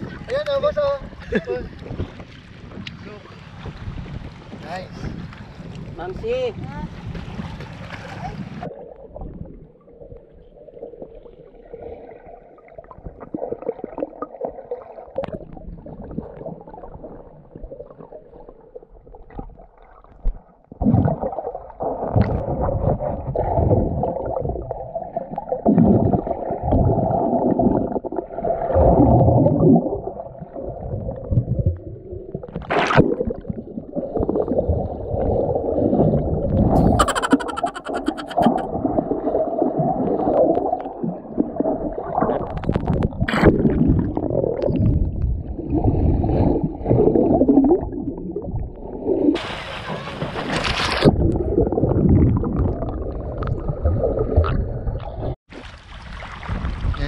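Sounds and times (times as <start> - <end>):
underwater gurgling water: 7.4 - 56.9.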